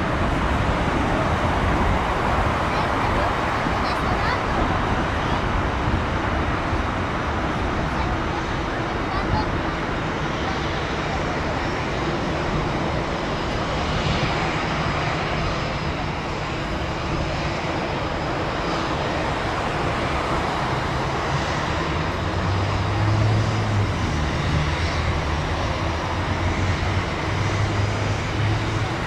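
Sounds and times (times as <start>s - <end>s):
jet engines rushing and rumbling: 0.0s - 29.0s.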